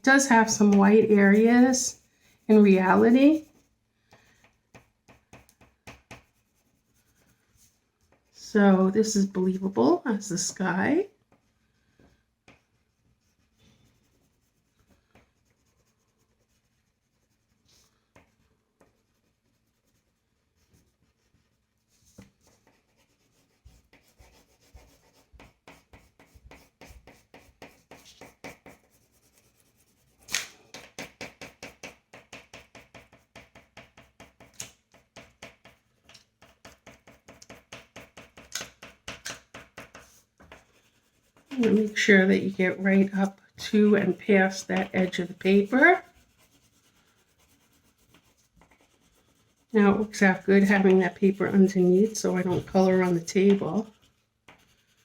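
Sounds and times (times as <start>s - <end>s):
colouring strokes on paper: 0.0s - 55.0s.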